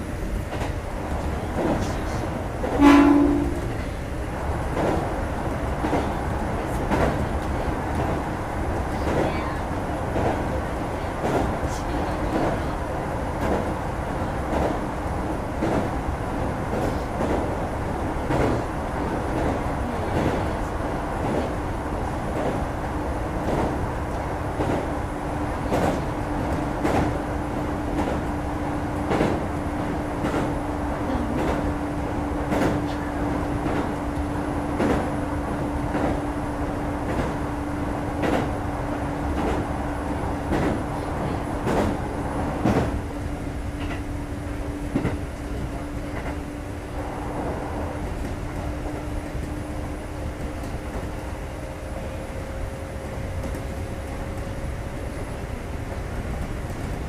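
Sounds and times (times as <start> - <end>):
train running noise: 0.0 - 57.0.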